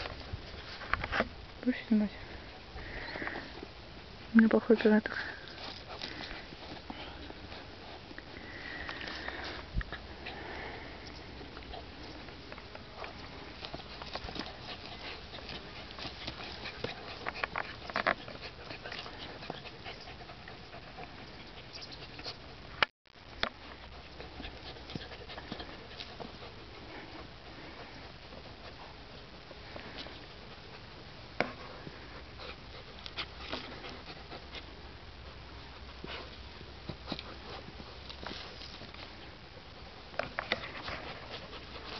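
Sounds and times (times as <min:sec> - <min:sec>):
paws scratching soil: 0:00.0 - 0:41.9
puppies sniffing: 0:05.1 - 0:22.6, 0:23.5 - 0:41.9.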